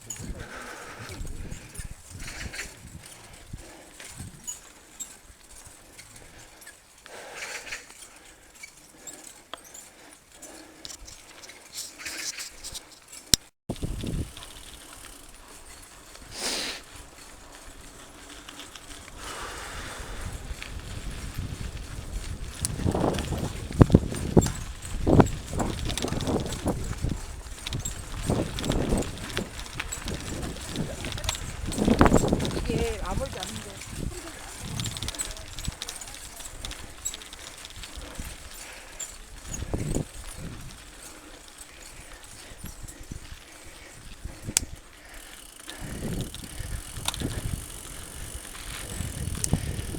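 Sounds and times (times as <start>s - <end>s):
bike tyres on dirt trail: 0.0s - 49.9s.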